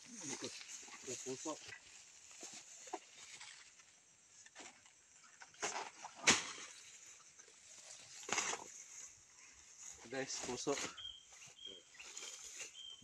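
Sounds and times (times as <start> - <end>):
grass and leaves swishing: 0.0 - 13.0.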